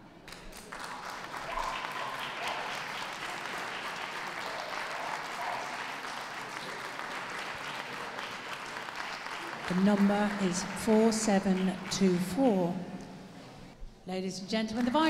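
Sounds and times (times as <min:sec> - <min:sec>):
audience applauding: 0:00.2 - 0:12.6.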